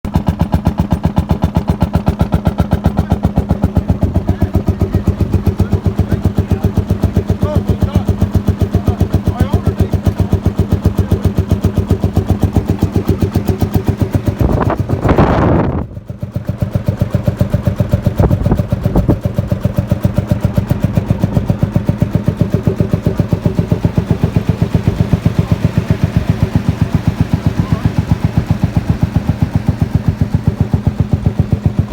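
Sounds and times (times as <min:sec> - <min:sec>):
machine engine running: 0:00.1 - 0:31.9.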